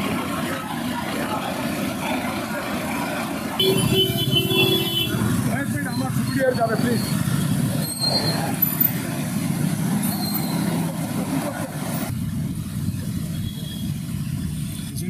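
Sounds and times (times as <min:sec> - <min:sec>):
low rumble of vehicles: 0:00.0 - 0:15.0
street noise: 0:00.0 - 0:15.0.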